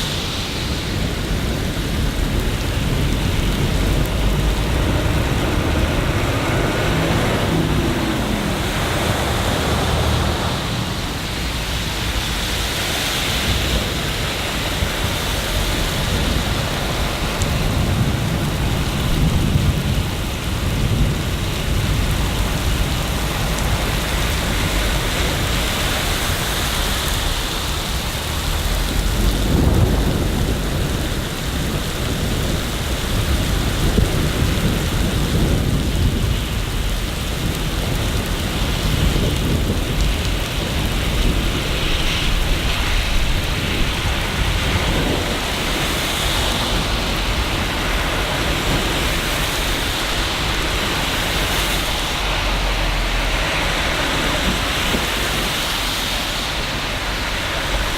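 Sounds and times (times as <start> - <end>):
steady rain: 0.0 - 57.9
thunder rumbling: 0.0 - 57.9.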